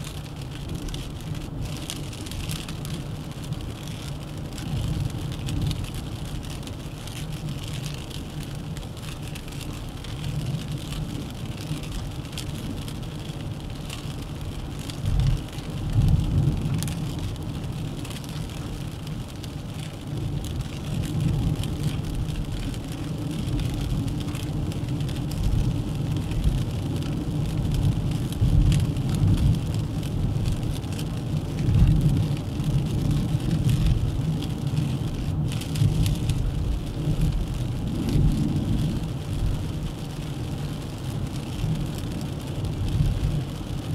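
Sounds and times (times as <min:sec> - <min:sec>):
car tyre and wind noise: 0:00.0 - 0:43.9.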